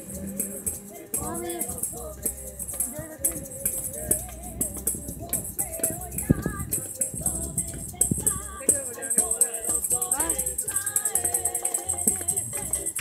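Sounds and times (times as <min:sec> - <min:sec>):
group singing: 0:00.0 - 0:13.0
hand clapping: 0:00.0 - 0:13.0
maracas shaking: 0:00.0 - 0:13.0.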